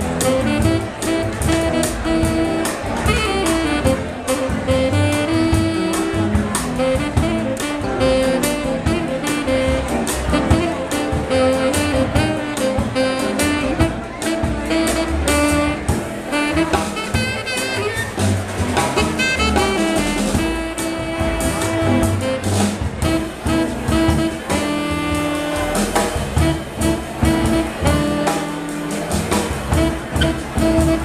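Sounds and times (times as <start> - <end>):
drum kit keeping time: 0.0 - 31.0
tenor saxophone melody: 0.0 - 31.0.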